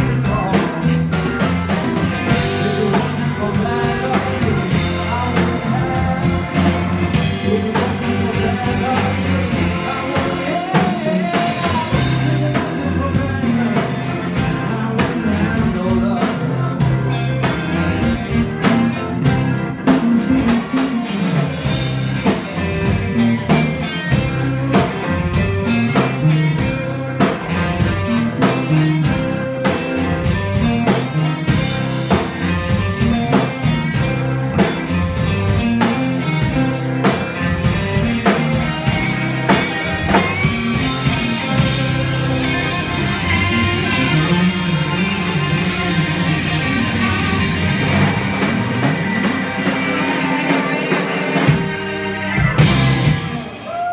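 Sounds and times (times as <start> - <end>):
blues band playing: 0.0 - 53.9.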